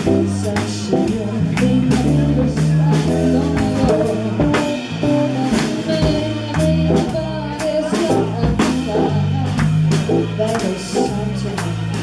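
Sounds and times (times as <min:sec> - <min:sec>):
bass notes: 0:00.0 - 0:12.0
drum kit hits: 0:00.0 - 0:12.0
latin jazz band playing: 0:00.0 - 0:12.0
woman singing: 0:00.0 - 0:12.0.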